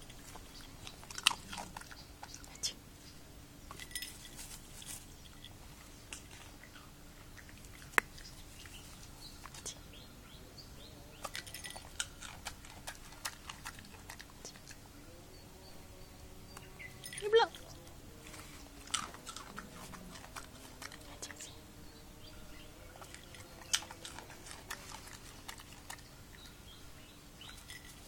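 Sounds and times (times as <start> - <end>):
dog chewing beans: 0.0 - 2.8, 3.7 - 9.8, 11.1 - 15.0, 16.5 - 28.0.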